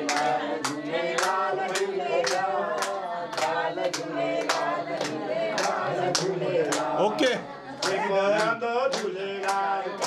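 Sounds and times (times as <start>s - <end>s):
group of people singing: 0.0s - 10.0s
rhythmic hand clapping: 0.0s - 10.0s.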